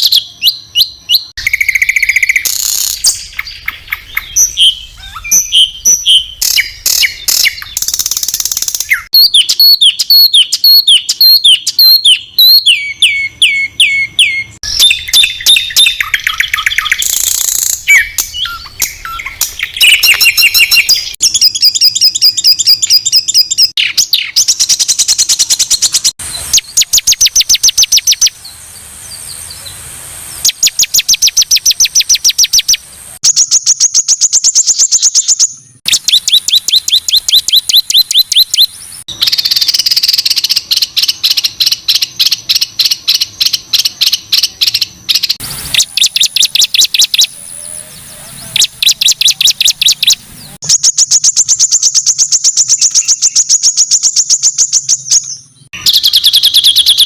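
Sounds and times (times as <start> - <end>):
songbird harsh rapid notes: 0.0 - 57.0.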